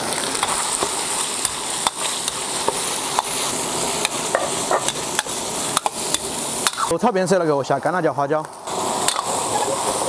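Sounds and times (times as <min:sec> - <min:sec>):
pork sizzling in a wok: 0:00.0 - 0:10.0.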